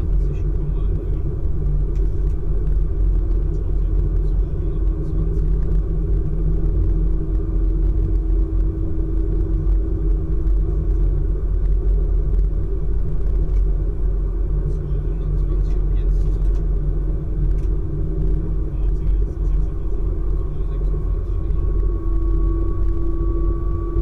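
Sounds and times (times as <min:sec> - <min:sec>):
faint steady hum: 0:00.0 - 0:24.0
train wheels rumbling: 0:00.0 - 0:24.0.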